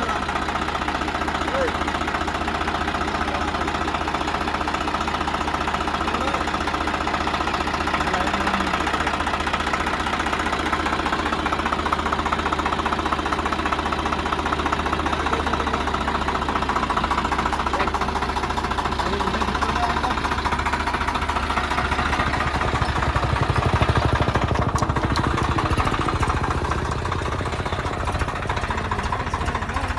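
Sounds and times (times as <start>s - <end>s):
tractor engine knocking: 0.0s - 29.9s.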